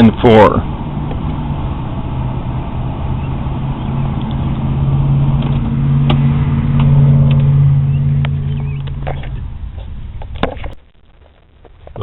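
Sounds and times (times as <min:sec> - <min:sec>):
blower fan humming over rushing air: 0:00.0 - 0:12.0.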